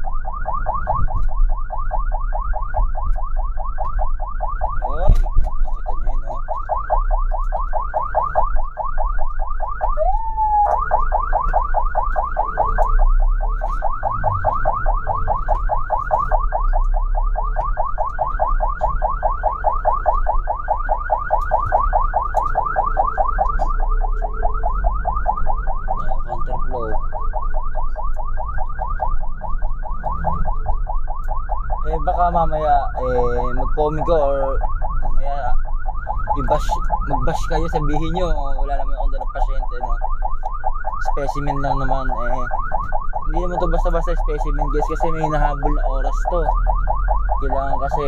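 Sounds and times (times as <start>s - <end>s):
ambulance siren yelping: 0.0s - 48.0s.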